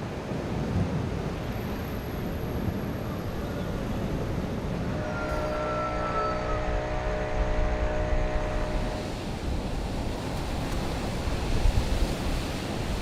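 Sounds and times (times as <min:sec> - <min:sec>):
rain: 0:00.0 - 0:13.0
storm wind: 0:00.0 - 0:13.0
wind rumble on microphone: 0:00.0 - 0:13.0.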